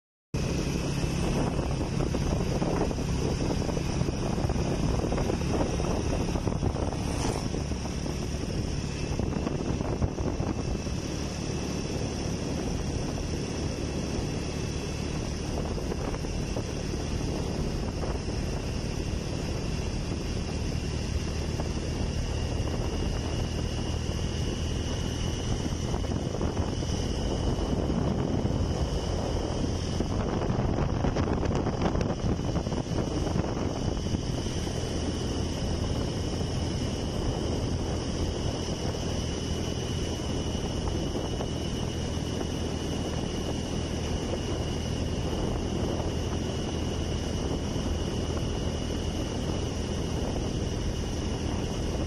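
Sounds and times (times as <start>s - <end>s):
motorcycle engine running: 0.4s - 52.0s
wind noise on microphone: 0.4s - 52.0s.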